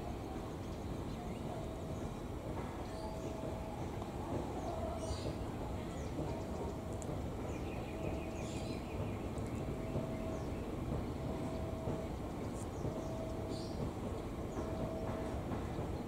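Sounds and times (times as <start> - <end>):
diesel locomotive engine rumbling: 0.0 - 16.0
birds chirping: 0.3 - 16.0.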